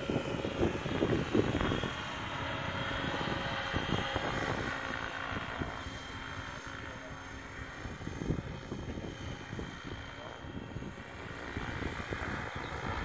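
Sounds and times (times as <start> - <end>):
model helicopter whirring: 0.0 - 13.0.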